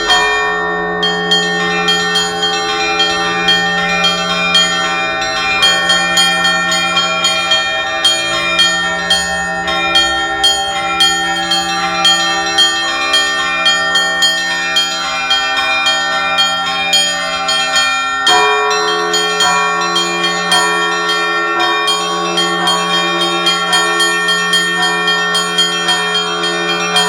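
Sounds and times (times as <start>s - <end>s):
large church bells ringing: 0.0s - 27.0s
small church bells struck quickly: 0.0s - 27.0s.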